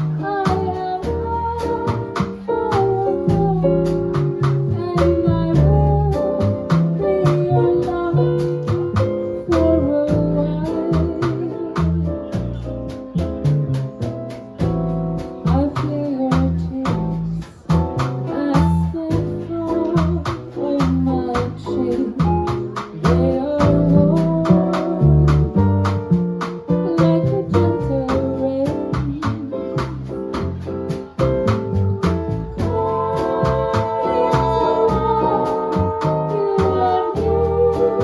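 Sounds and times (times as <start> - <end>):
drums: 0.0 - 38.0
plucked double bass: 0.0 - 38.0.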